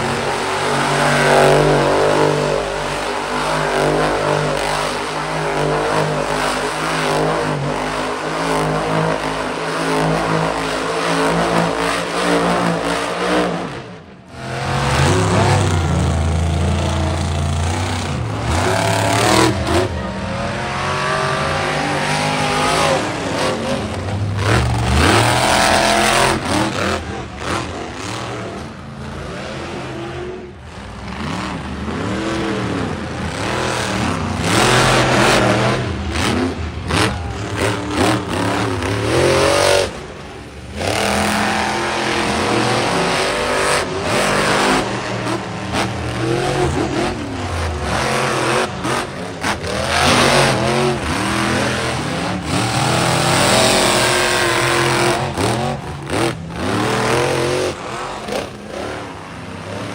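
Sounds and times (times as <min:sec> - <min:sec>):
monster truck engines revving: 0:00.0 - 0:59.9.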